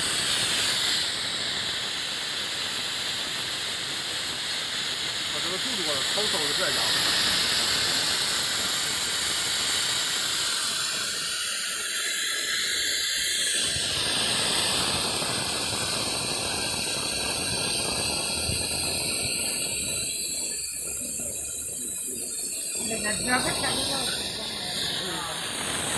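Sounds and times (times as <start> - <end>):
compressed-air venturi hissing: 0.0 - 25.9
oil sucked through a hose: 0.0 - 25.9.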